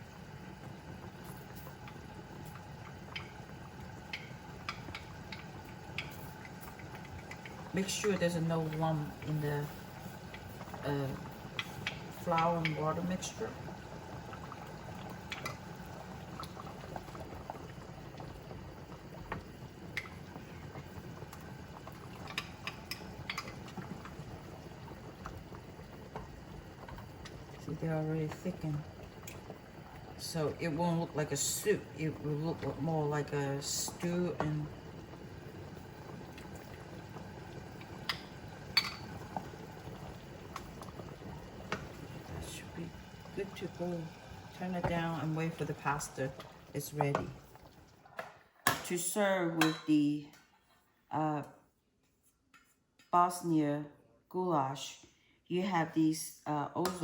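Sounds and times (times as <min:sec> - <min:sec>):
pot bubbling: 0:00.0 - 0:50.6.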